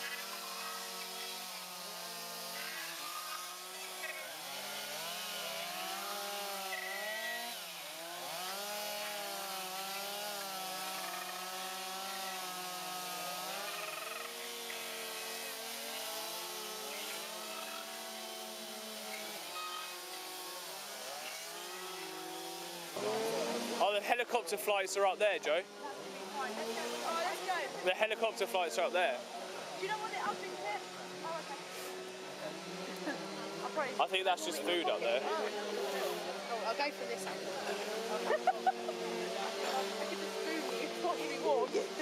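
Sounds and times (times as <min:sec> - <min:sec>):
small engine revving: 0:00.0 - 0:42.0.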